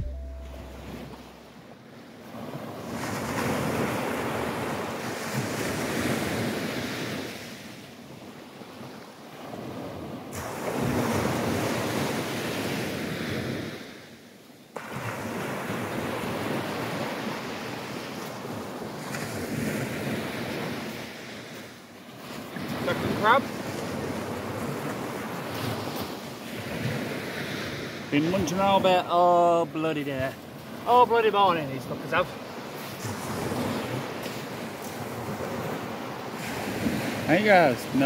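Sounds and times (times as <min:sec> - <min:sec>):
small waves breaking on sand: 0:00.8 - 0:38.0.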